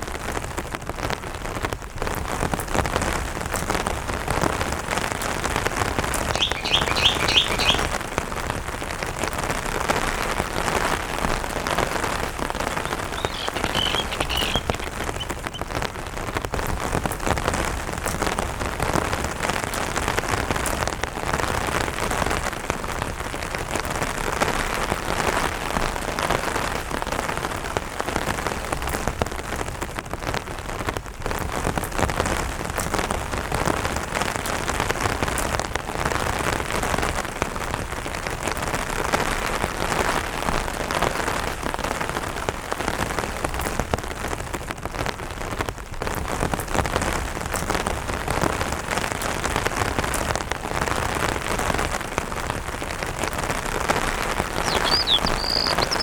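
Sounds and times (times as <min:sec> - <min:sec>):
rain on umbrella fabric: 0:00.0 - 0:56.0.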